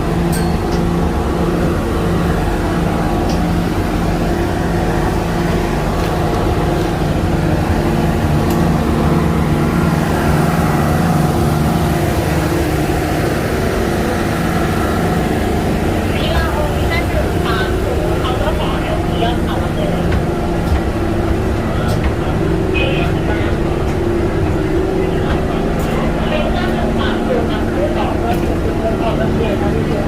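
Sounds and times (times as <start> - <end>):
engine mechanical drone: 0.0 - 30.0.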